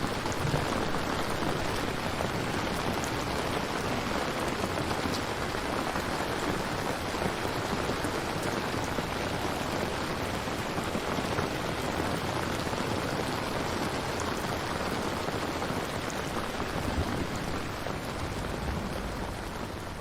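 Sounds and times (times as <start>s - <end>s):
faint raindrop ticks: 0.0s - 20.0s
steady rain falling: 0.0s - 20.0s.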